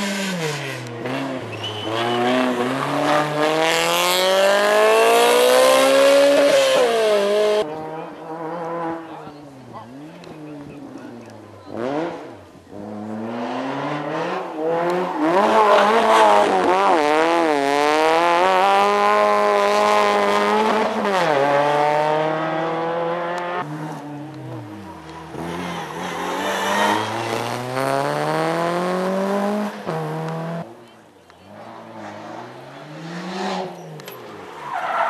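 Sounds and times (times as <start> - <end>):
rally car engines revving: 0.0 - 35.0.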